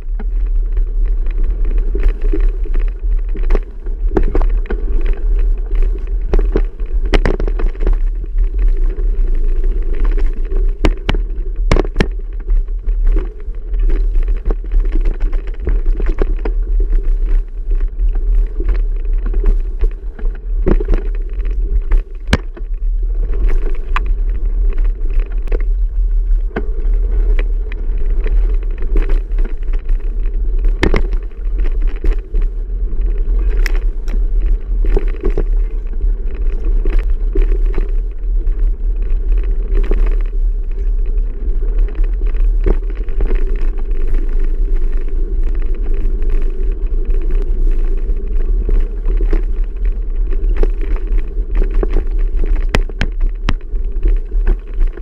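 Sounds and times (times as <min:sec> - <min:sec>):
bike knocks and rattles: 0:00.0 - 0:38.0, 0:47.4 - 0:55.0
wind and tyre rumble: 0:00.0 - 0:55.0.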